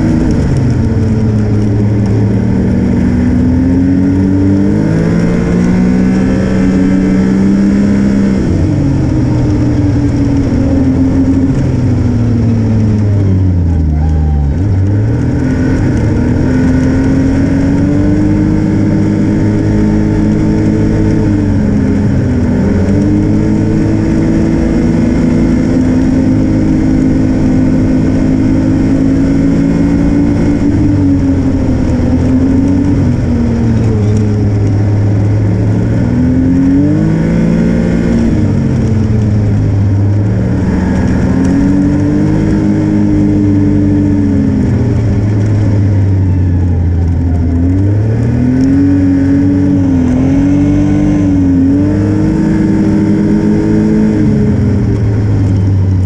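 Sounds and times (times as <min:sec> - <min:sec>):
snowmobile engine: 0:00.0 - 0:56.0.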